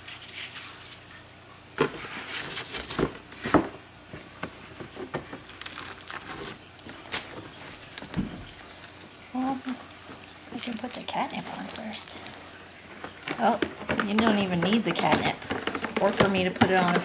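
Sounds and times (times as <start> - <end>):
plastic and paper packaging crinkling: 1.8 - 17.0.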